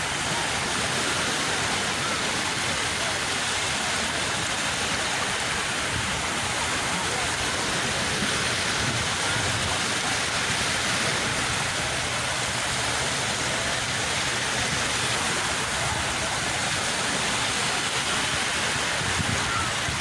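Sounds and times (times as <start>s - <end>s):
sea waves breaking on shore: 0.0s - 20.0s.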